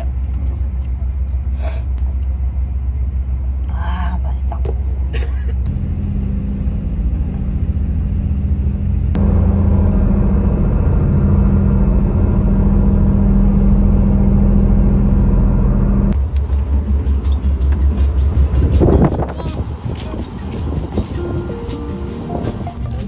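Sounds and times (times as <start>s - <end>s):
large engine droning: 0.0s - 23.0s.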